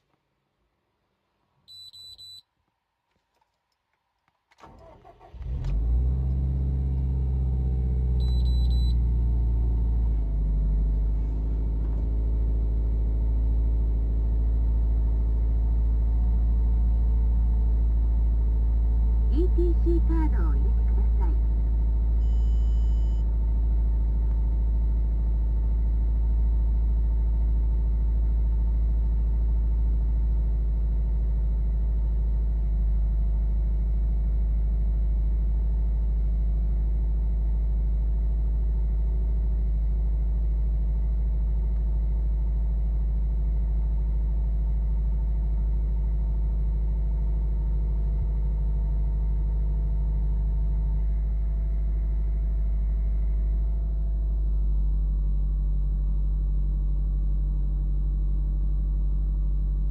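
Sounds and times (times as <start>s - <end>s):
car engine idling: 4.6s - 34.3s, 41.4s - 59.9s.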